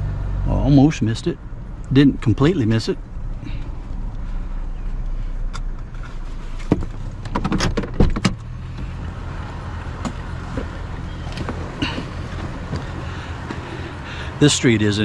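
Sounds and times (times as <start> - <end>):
vehicle idling rumble: 0.0 - 15.0.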